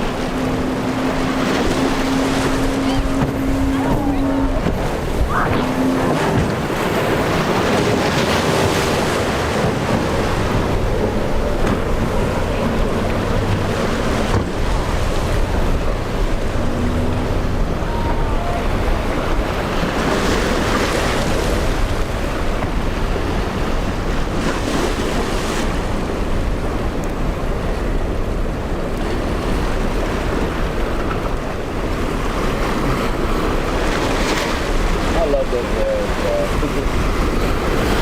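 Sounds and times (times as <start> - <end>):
waves breaking: 0.0 - 38.0
wind rumbling on microphone: 0.0 - 38.0.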